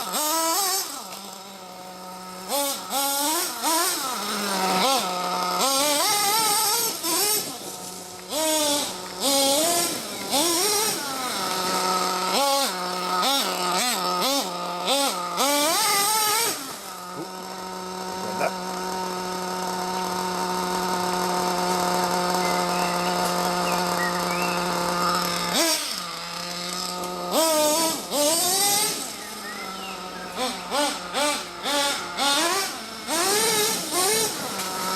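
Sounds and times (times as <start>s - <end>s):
model truck nitro engine revving: 0.0s - 34.9s.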